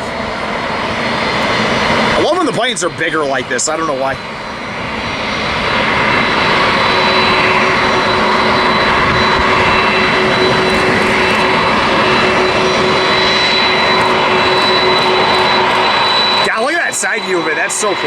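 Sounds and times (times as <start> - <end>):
high steady whine: 0.0 - 18.0
jet engines roaring: 0.0 - 18.0.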